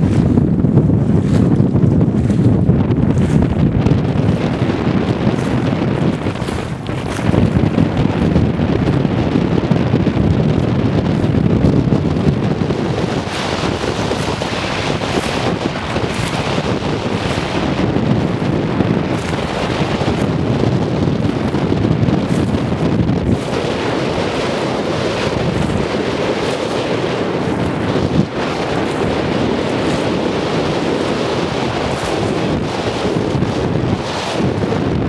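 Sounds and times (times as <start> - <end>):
strong wind buffeting microphone: 0.0 - 35.0.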